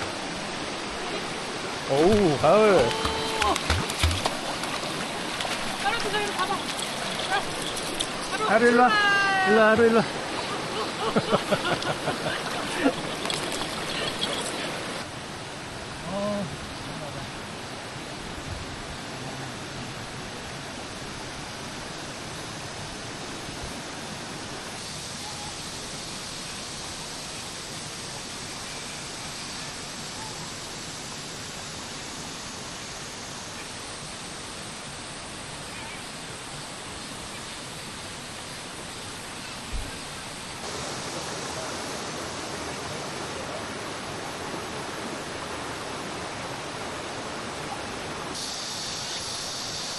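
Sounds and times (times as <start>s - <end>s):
stream flowing water: 0.0s - 49.9s.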